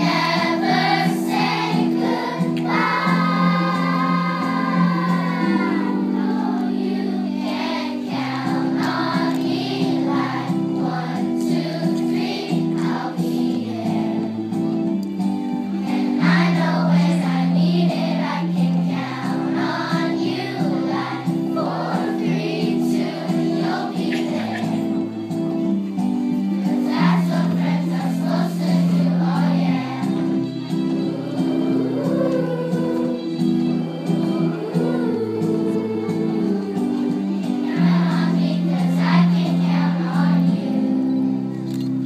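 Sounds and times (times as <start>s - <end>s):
choir singing: 0.0s - 14.4s, 15.8s - 25.0s, 26.6s - 41.3s
held accompaniment chords: 0.0s - 42.0s.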